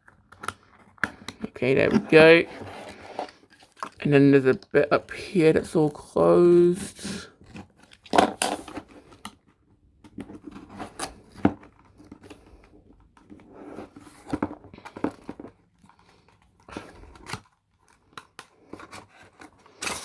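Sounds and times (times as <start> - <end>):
plastic and paper crinkling: 0.0 - 20.0.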